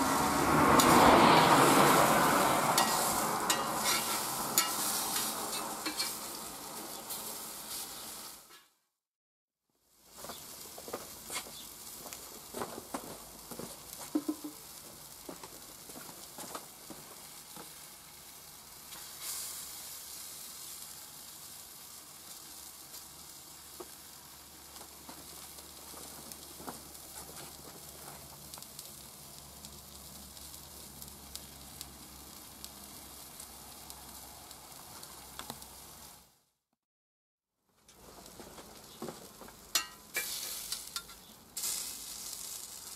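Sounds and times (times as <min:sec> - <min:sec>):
food sizzling on a hot plate: 0:00.0 - 0:08.6, 0:09.8 - 0:36.4, 0:37.8 - 0:42.9.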